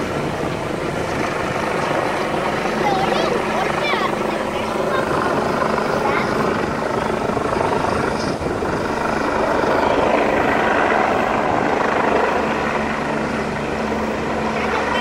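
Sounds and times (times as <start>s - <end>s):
helicopter flying low overhead: 0.0s - 15.0s.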